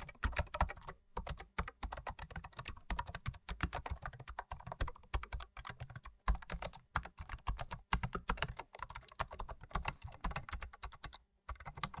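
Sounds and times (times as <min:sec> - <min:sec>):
fast typing on a keyboard: 0:00.0 - 0:12.0.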